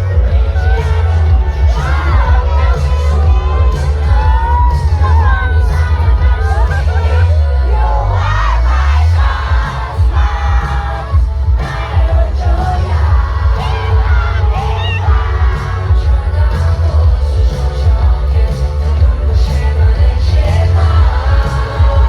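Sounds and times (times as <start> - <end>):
crowd shouting and singing: 0.0 - 22.0
person singing: 0.0 - 22.0
pop song over loudspeakers: 0.0 - 22.0.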